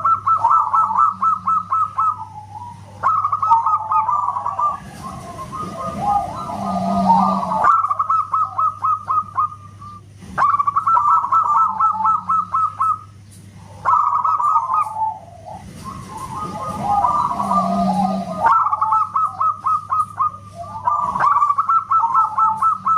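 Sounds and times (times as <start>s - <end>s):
dove cooing: 0.0s - 22.9s.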